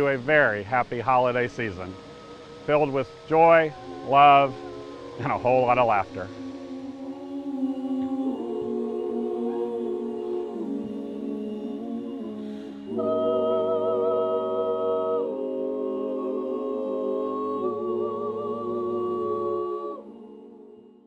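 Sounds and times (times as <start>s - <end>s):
a cappella choir singing: 0.0s - 21.0s.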